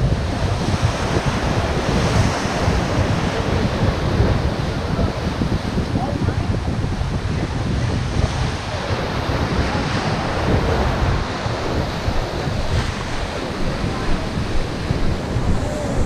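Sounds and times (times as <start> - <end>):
choppy surf rushing: 0.0 - 16.0
wind buffeting microphone: 0.0 - 16.0.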